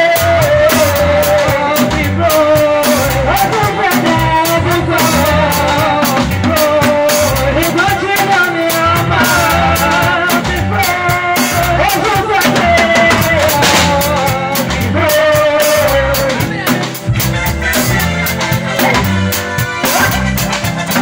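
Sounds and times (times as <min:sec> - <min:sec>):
electronic keyboard melody: 0:00.0 - 0:21.0
steady drum beat: 0:00.0 - 0:21.0.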